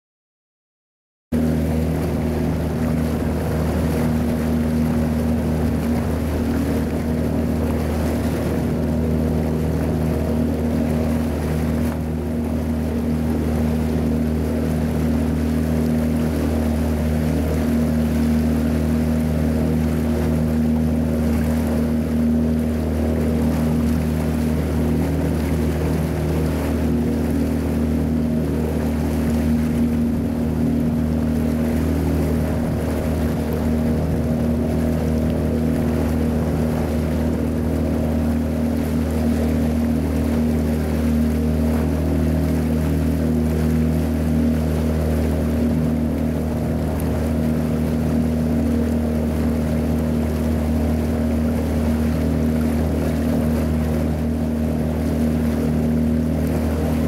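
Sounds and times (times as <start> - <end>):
boat motor droning: 1.3 - 57.0.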